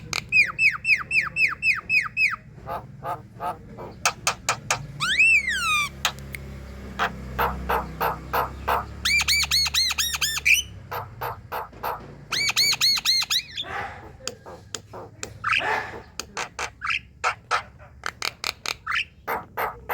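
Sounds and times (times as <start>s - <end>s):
bird rasping squawks: 0.0s - 6.2s, 7.0s - 19.9s
bird chattering song: 0.0s - 19.9s.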